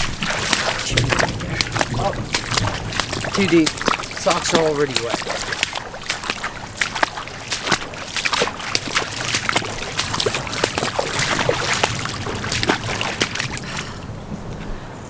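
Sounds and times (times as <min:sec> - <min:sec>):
footsteps splashing through water: 0:00.0 - 0:14.0.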